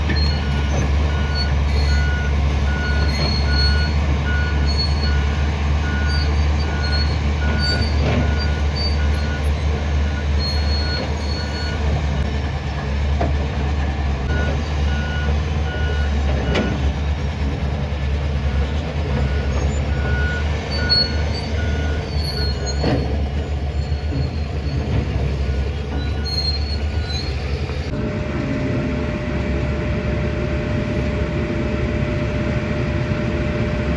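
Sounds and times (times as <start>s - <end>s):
heavy diesel engines running: 0.0s - 33.9s.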